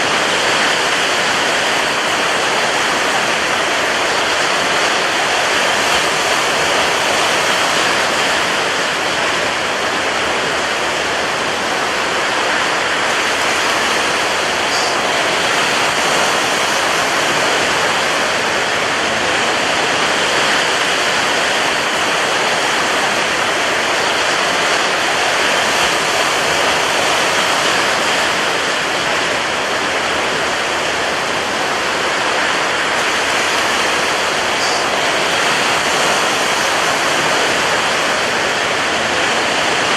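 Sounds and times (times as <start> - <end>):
rough sea and wind rushing: 0.0 - 39.9.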